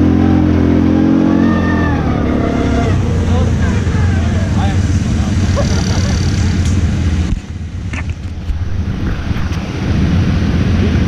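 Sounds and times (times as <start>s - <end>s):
quad bike engine drone: 0.0s - 11.0s.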